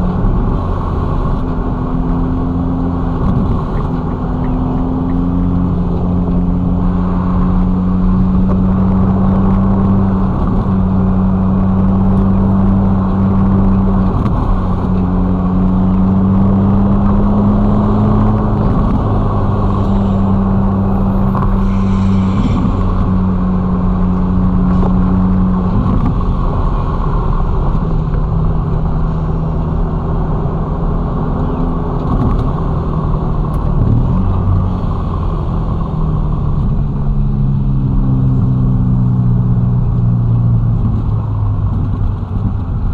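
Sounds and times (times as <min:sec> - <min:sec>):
car engine cruising: 0:00.0 - 0:42.9
tyre and road noise: 0:00.0 - 0:42.9.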